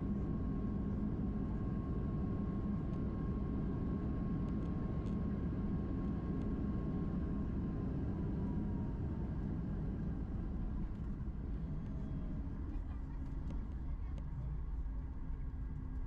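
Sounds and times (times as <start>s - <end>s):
low rumble of jet engines: 0.0s - 16.0s.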